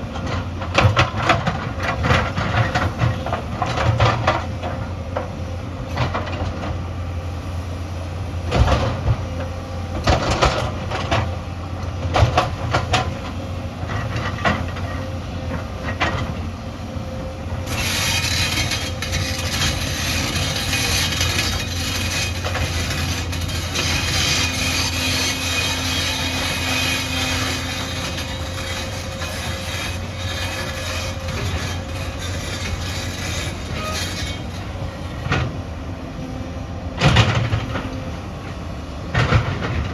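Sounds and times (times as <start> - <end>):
diesel engine running: 6.8 - 39.9.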